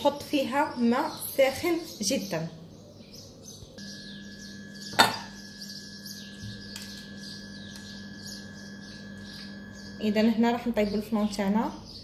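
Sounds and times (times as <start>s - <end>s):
birds chirping: 0.0s - 12.0s
steady hum: 0.0s - 12.0s.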